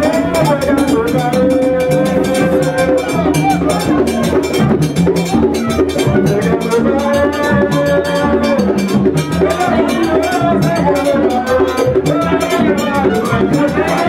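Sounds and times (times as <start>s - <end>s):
group singing a chant: 0.0s - 14.0s
hand drums playing: 0.0s - 14.0s.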